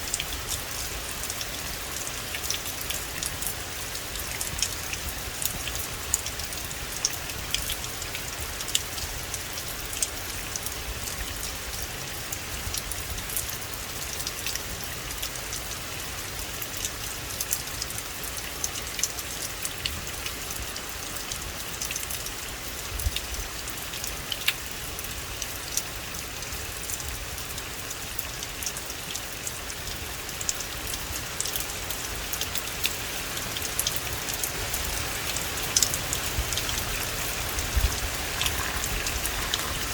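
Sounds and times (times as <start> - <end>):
steady rain hiss: 0.0 - 39.9
raindrops ticking: 0.1 - 12.0, 16.5 - 39.9.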